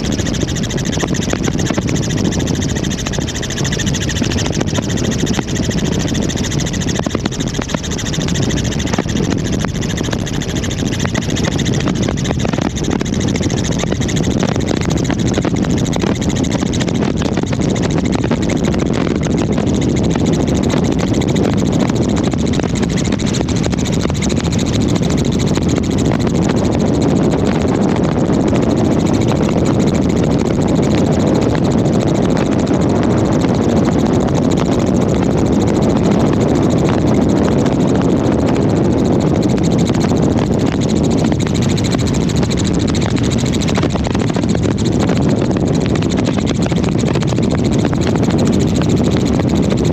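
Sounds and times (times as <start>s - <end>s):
helicopter turbine and rotor noise: 0.0s - 49.9s.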